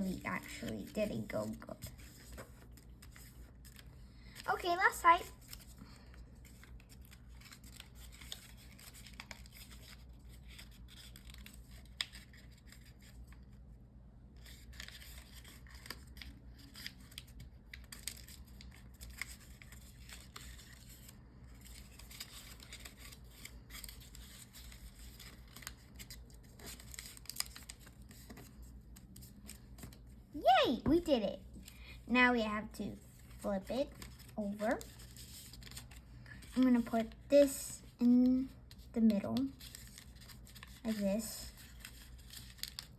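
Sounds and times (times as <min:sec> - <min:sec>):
paper being folded and creased: 0:00.0 - 0:13.6, 0:14.3 - 0:42.9.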